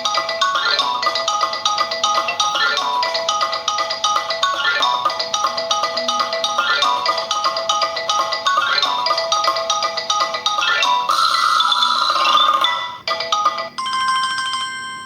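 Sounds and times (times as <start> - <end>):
marimba ringtone melody: 0.0 - 15.0.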